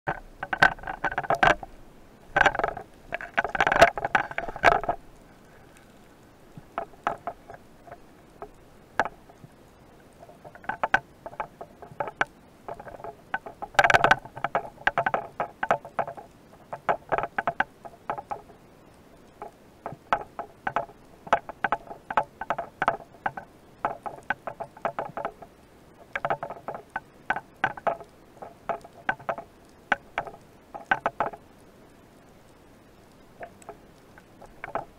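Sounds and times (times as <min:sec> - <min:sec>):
underwater clicks and knocks: 0:00.1 - 0:32.1, 0:33.0 - 0:34.9.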